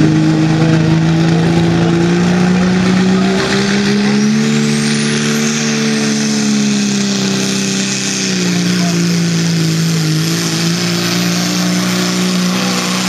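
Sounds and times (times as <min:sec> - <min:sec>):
diesel truck engine running hard: 0:00.0 - 0:13.0.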